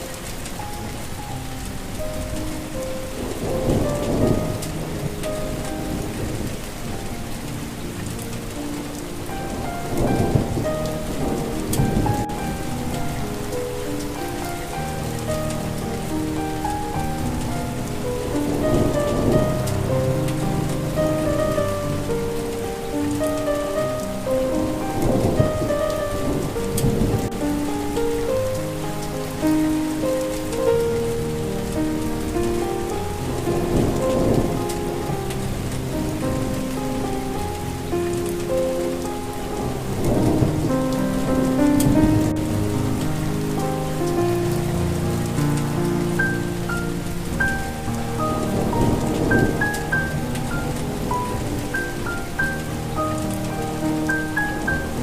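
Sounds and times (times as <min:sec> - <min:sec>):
soft melody of held notes: 0:00.0 - 0:55.0
steady rain: 0:00.0 - 0:55.0
thunder rumbling: 0:00.0 - 0:55.0.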